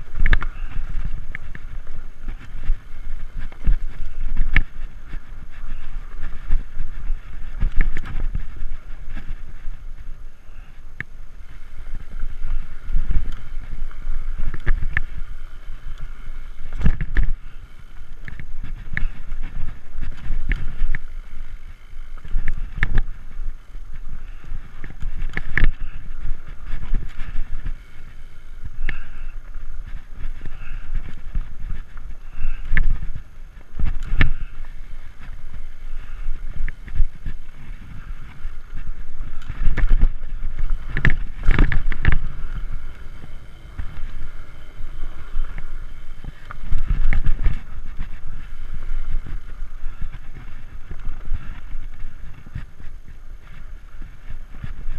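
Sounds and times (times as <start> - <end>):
bike knocks and rattles: 0.0 - 10.2, 11.0 - 54.9
bike tyres rumbling on dirt: 0.0 - 54.9
wind buffeting microphone: 0.0 - 54.9.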